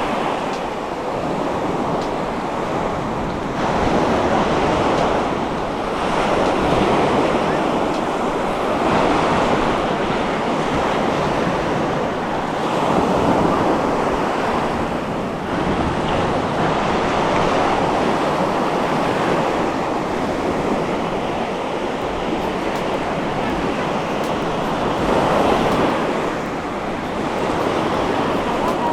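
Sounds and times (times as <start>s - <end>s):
sea waves breaking on shore: 0.0s - 28.9s
wind on microphone: 0.0s - 28.9s.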